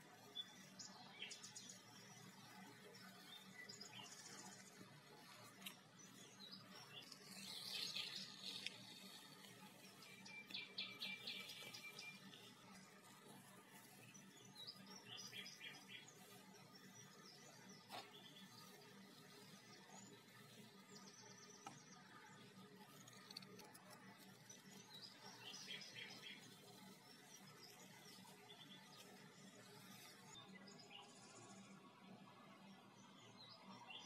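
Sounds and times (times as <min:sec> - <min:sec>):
faint birdsong: 0:00.0 - 0:34.0.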